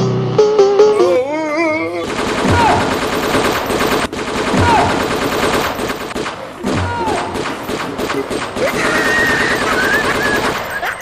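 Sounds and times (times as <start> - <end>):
rapid machine-gun fire: 2.0 - 11.0.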